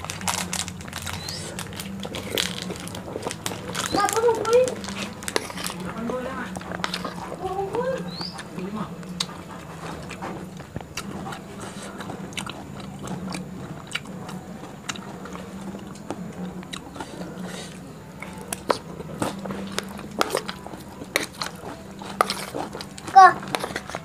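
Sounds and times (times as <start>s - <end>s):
chewing and crunching: 0.0s - 24.0s
steady low hum: 0.0s - 24.0s.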